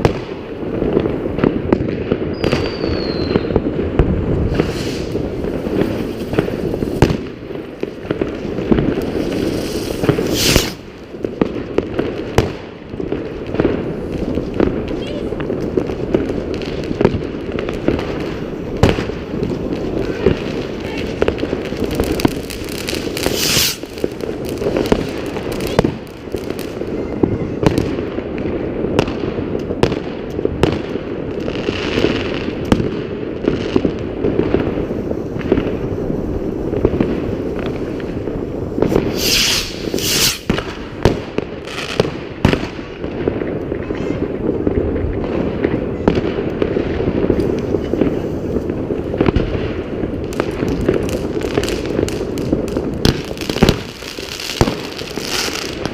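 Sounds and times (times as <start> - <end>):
fireworks and firecrackers banging: 0.0 - 55.9.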